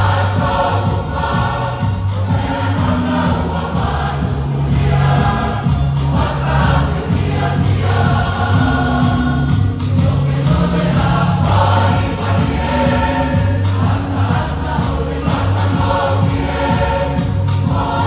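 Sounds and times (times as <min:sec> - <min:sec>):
church choir singing a hymn: 0:00.0 - 0:18.0.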